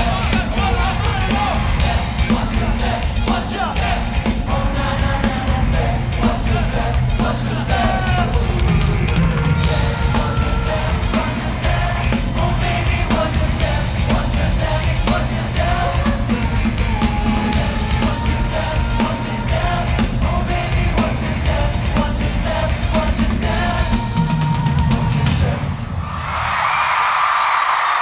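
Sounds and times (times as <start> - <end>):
dance-pop song over loudspeakers: 0.0 - 26.0.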